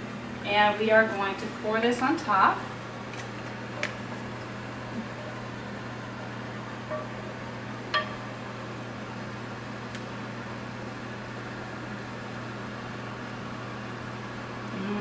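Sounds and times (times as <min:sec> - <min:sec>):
fan hum and hiss: 0:00.0 - 0:15.0.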